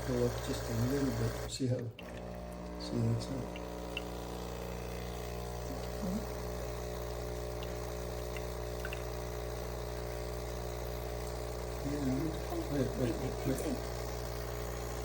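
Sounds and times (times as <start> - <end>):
small appliance motor humming: 0.0 - 15.0.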